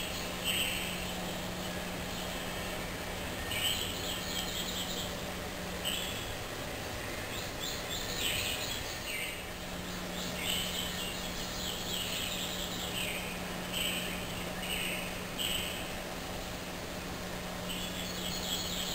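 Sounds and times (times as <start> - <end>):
small birds chirping: 0.0 - 16.0, 17.5 - 18.9
low hum: 0.0 - 18.9
steady hiss: 0.0 - 18.9.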